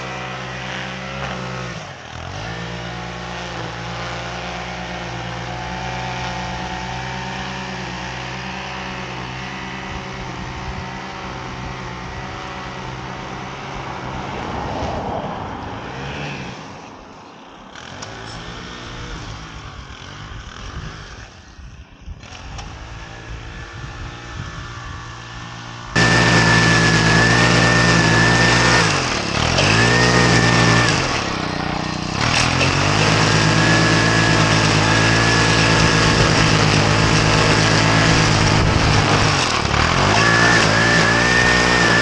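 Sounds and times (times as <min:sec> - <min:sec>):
small lawn equipment engine running: 0:00.0 - 0:14.8, 0:15.8 - 0:42.0.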